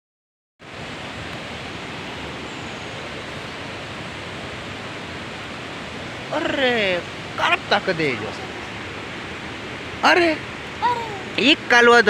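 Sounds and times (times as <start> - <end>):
river water rushing: 0.6 - 12.0.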